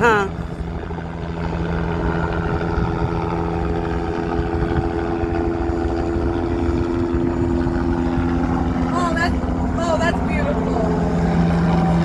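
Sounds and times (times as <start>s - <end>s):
helicopter engine whine: 0.0s - 12.0s
helicopter rotor rumble: 0.0s - 12.0s.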